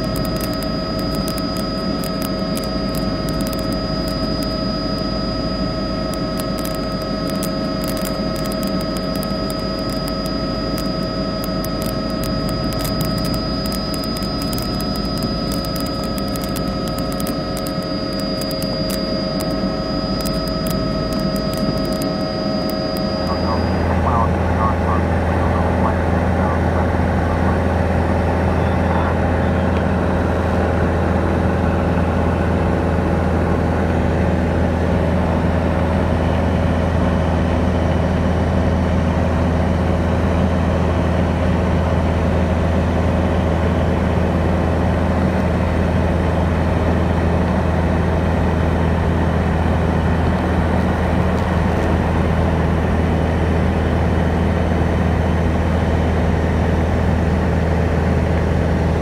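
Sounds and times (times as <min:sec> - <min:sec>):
aircraft engine droning in cabin: 0:00.0 - 0:59.0.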